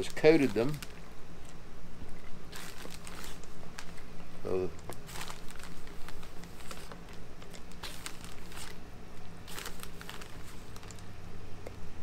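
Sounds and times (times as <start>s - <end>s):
plastic bag crinkling: 0.0s - 1.6s, 2.2s - 8.8s, 9.4s - 11.1s
low steady hum: 0.0s - 12.0s.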